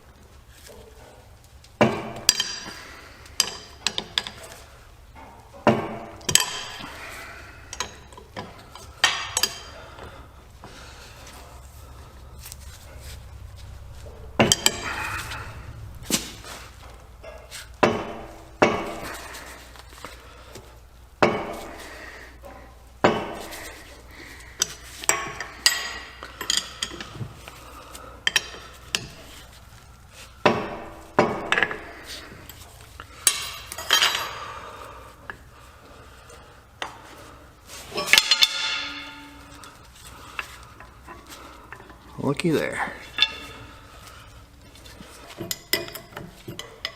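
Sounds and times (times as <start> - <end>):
metal tools clanking: 1.8 - 11.7, 12.3 - 20.1, 21.2 - 35.4, 36.8 - 46.9.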